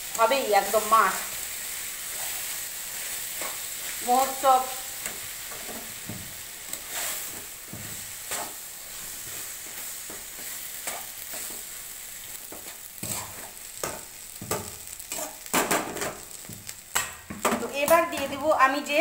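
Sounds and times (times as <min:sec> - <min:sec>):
food sizzling in oil: 0:00.0 - 0:19.0
stirring and scraping pan: 0:00.5 - 0:18.4.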